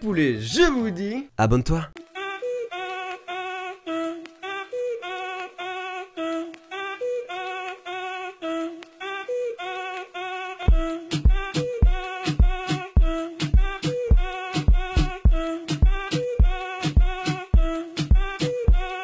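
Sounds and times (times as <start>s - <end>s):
repetitive sung melody: 2.0s - 19.0s.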